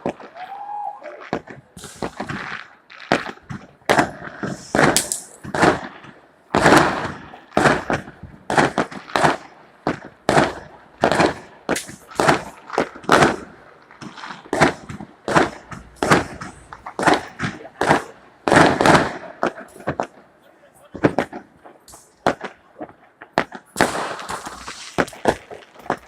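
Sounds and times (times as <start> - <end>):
firecrackers banging: 0.0 - 26.0.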